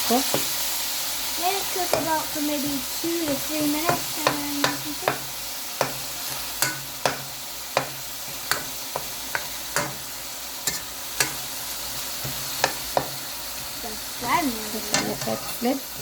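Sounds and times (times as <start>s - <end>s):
beef sizzling in a wok: 0.0s - 16.0s.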